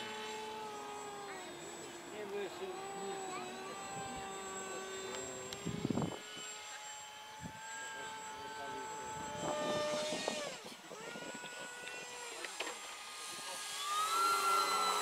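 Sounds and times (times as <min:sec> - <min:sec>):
model airplane motor whining: 0:00.0 - 0:15.0.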